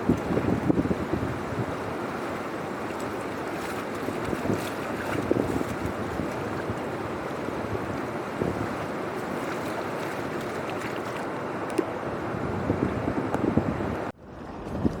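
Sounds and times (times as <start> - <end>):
flowing water rushing: 0.0 - 14.1.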